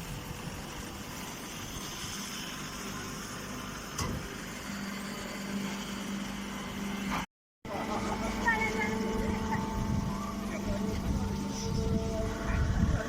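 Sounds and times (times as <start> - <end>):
baler machinery running: 0.0 - 13.0
steady low hum: 0.0 - 13.0.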